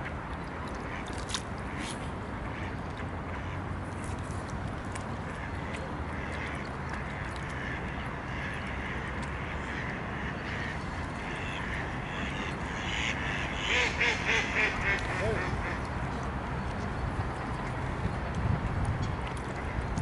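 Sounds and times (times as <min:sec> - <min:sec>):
swans splashing in water: 0:00.0 - 0:20.0.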